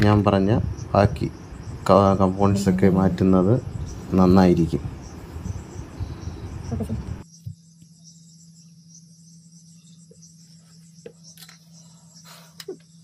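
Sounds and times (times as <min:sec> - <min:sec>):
insects chirping: 0:00.0 - 0:13.0
low steady hum: 0:00.0 - 0:13.0.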